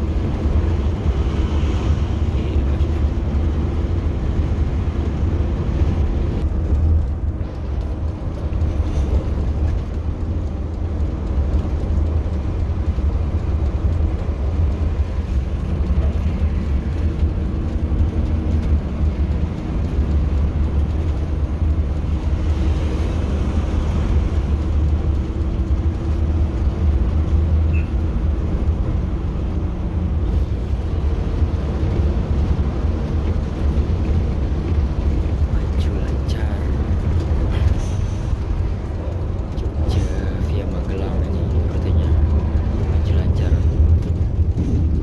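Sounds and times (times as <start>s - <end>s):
bus engine drone and tyre noise: 0.0s - 45.0s.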